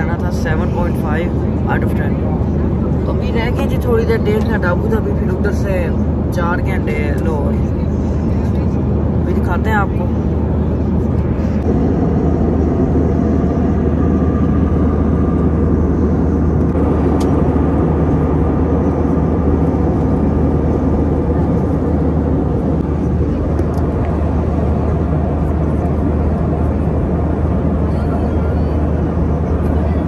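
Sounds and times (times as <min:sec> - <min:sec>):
jet engine and airflow rumble: 0:00.0 - 0:30.0.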